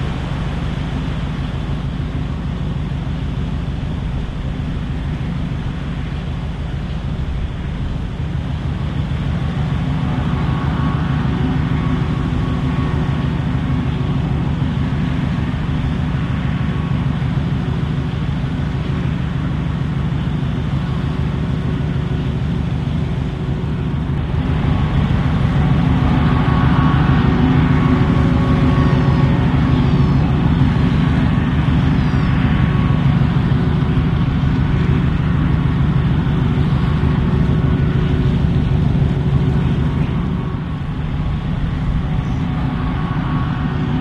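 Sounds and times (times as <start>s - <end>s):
ship engine rumble: 0.0s - 44.0s.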